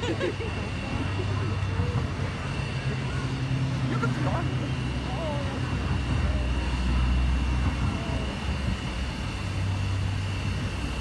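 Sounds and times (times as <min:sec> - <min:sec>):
steam locomotive rumble: 0:00.0 - 0:11.0.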